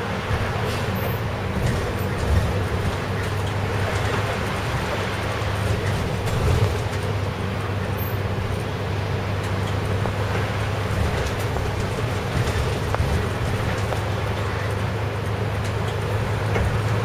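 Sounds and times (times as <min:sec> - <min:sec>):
bus engine humming: 0:00.0 - 0:17.0
tyres on wet road: 0:00.0 - 0:17.0.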